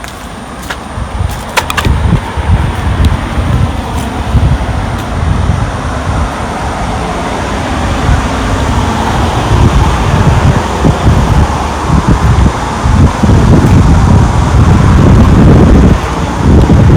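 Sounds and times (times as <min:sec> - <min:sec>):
road traffic hiss: 0:00.0 - 0:16.9
wind buffeting microphone: 0:00.0 - 0:16.9.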